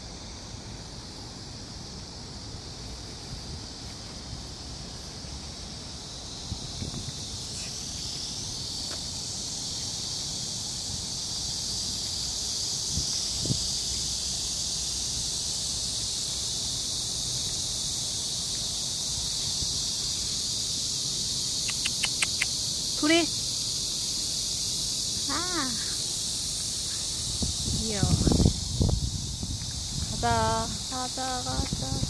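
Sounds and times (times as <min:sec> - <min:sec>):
cicadas buzzing: 0:00.0 - 0:32.0.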